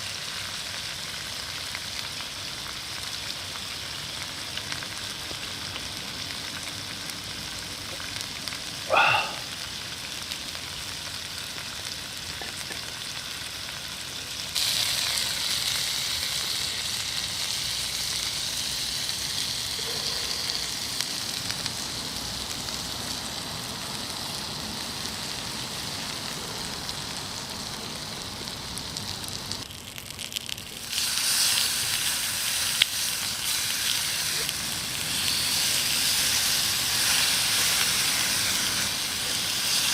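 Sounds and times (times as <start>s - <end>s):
meat sizzling on a grill: 0.0s - 39.9s.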